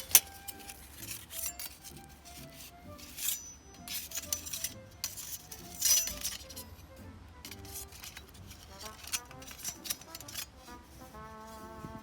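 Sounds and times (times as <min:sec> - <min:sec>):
metal plates clinking and scraping: 0:00.0 - 0:11.8
soft background music: 0:00.0 - 0:12.0.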